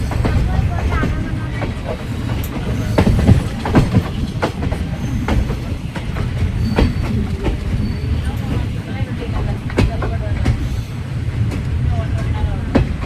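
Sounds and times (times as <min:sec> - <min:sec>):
wheels clanking over rail joints: 0:00.0 - 0:10.6
train rumbling on rails: 0:00.0 - 0:13.0.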